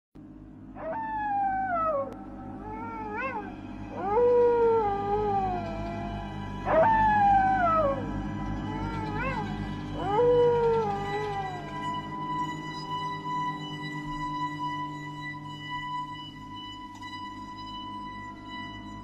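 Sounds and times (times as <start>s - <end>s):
steady low droning hum: 0.2s - 19.0s
long drawn-out howls: 0.8s - 19.0s.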